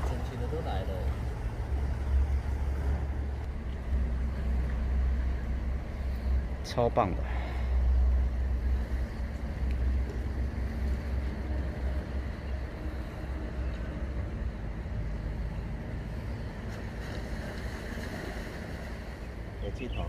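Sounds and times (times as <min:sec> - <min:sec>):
faint open-air ambience: 0:00.0 - 0:20.0.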